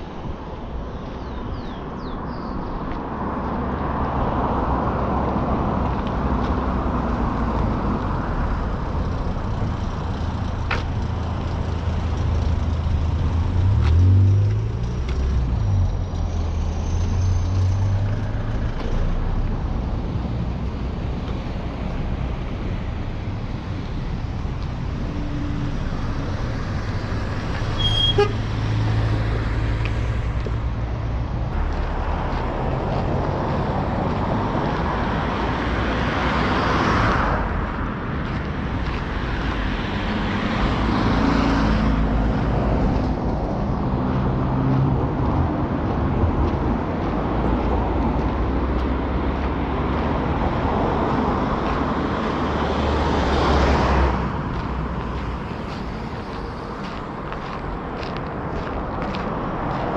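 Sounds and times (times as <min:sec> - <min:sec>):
engine rumble and tyre noise: 0:00.0 - 0:59.9
road traffic passing: 0:00.0 - 0:59.9.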